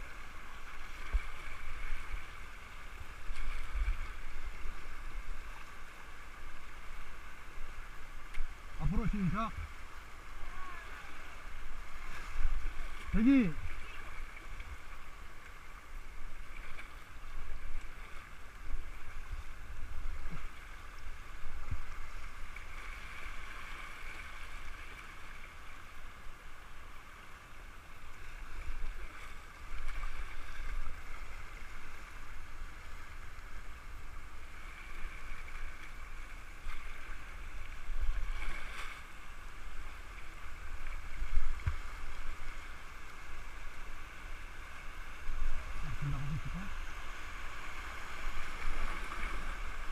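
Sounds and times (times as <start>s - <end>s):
water rushing over rapids: 0.0s - 49.9s.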